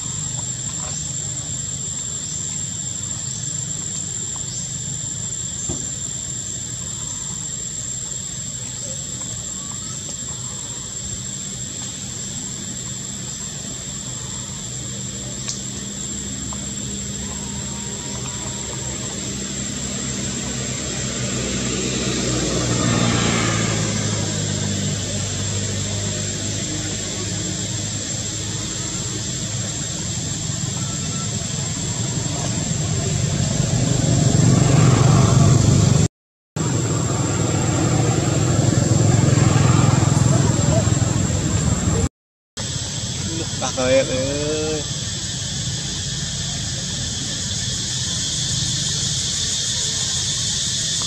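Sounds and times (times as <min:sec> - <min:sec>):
low engine drone: 0:00.0 - 0:51.0.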